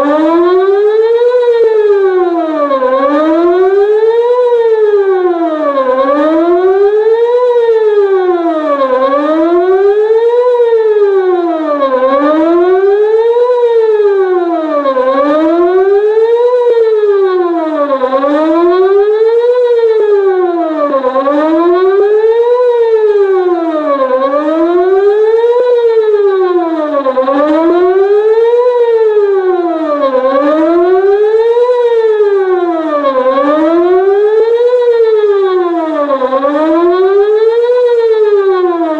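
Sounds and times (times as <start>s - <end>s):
outdoor warning siren wailing: 0.0s - 38.9s.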